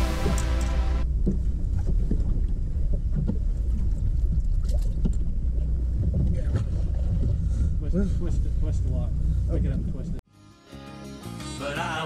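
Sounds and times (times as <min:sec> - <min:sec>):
water around boat: 0:00.0 - 0:10.2.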